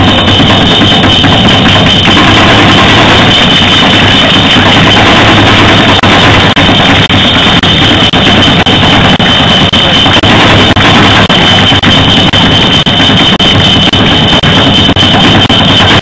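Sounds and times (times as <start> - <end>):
loud distorted drumming: 0.0 - 16.0
steady high tone: 0.0 - 16.0.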